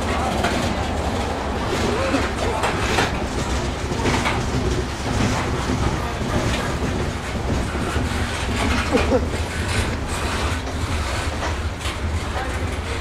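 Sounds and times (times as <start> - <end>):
train wheels rumbling on rail: 0.0 - 13.0
wheels clicking over rail joints: 0.0 - 13.0.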